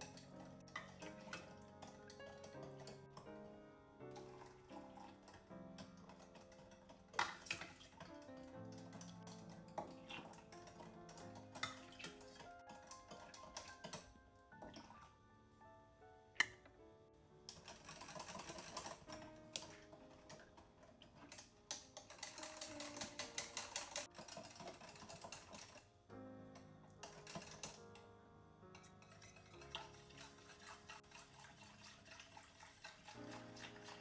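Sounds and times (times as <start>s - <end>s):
kitchen utensils clicking and tapping: 0.0s - 3.4s, 4.1s - 15.1s, 17.5s - 25.9s, 26.5s - 28.0s, 28.7s - 34.0s
soft background music: 0.0s - 34.0s.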